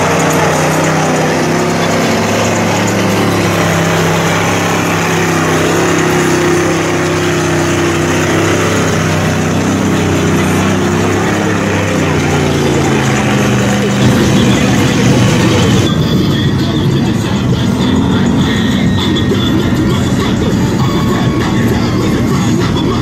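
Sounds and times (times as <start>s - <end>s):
off-road vehicle engine running hard: 0.0s - 23.0s.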